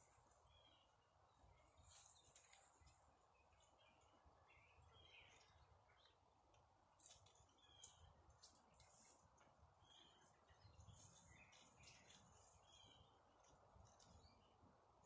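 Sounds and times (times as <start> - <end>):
soft bird chirps: 0.0 - 6.4, 7.0 - 15.0.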